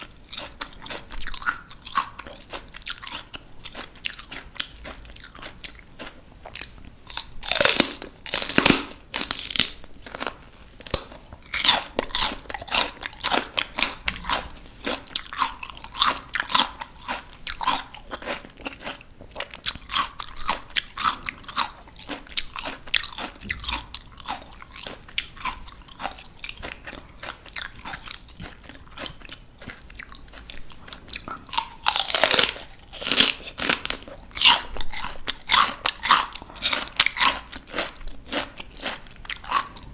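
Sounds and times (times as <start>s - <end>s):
crunching chews: 0.0s - 39.9s.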